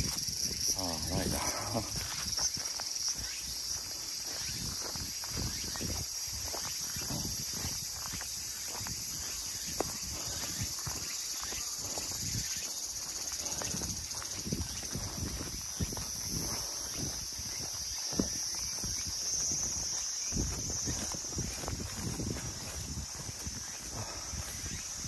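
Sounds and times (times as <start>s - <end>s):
footsteps on forest trail: 0.0s - 25.0s
insects chorus: 0.0s - 25.0s.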